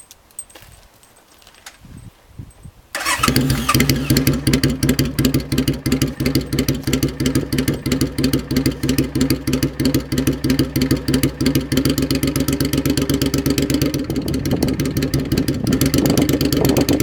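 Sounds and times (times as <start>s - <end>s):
motorcycle engine idling: 3.0s - 17.0s.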